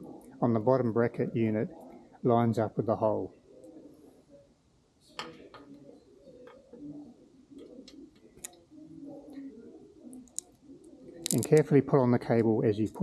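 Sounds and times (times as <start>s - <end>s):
dove cooing: 0.0s - 2.2s, 3.2s - 11.9s.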